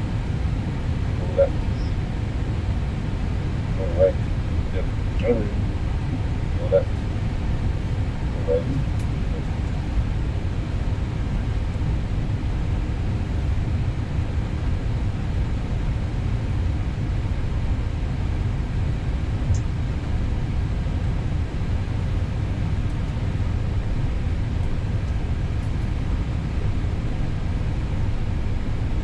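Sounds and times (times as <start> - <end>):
aircraft engines rumbling: 0.0 - 29.0.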